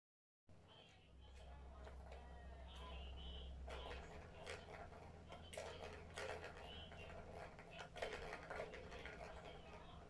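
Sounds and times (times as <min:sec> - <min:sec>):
plastic ball rattling in toy: 0:01.4 - 0:10.0.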